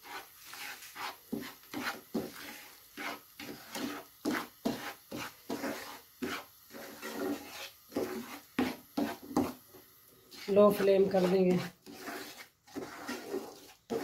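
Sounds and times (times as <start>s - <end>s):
wooden spoon scraping a pan: 0.0s - 14.0s.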